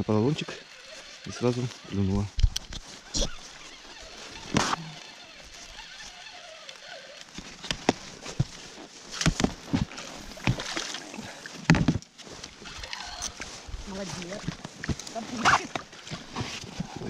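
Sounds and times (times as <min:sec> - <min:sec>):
water splashing and sloshing: 0:00.6 - 0:17.0.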